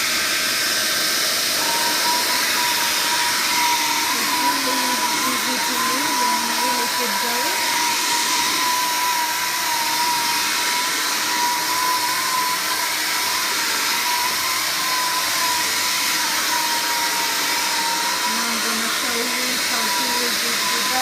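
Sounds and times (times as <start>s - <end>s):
vacuum cleaner rushing hiss: 0.0s - 21.0s
vacuum cleaner whine: 0.0s - 21.0s.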